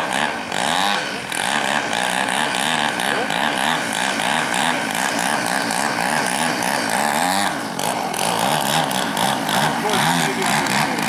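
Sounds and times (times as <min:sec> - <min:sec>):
model plane engine revving: 0:00.0 - 0:11.0.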